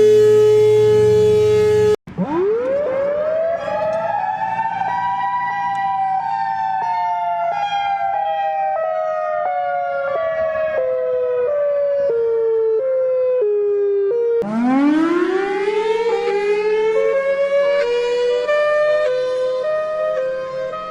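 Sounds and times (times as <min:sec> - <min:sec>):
siren rising in pitch: 0:00.0 - 0:20.9
two-tone warning siren wail: 0:00.0 - 0:20.9.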